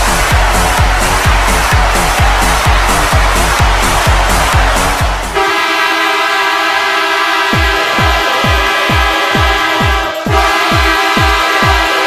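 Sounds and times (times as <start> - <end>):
crowd cheering: 0.0 - 12.0
electronic dance music: 0.0 - 12.0.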